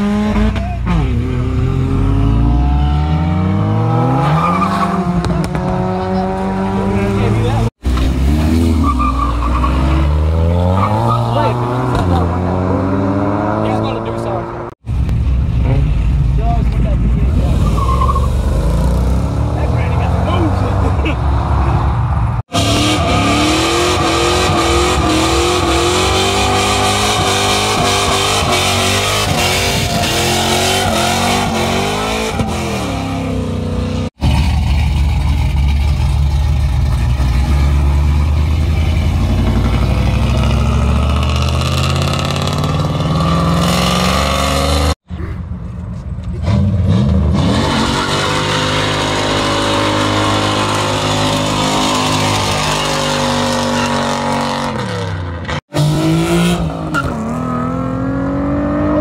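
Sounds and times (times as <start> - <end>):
car engines revving and accelerating: 0.0 - 59.0.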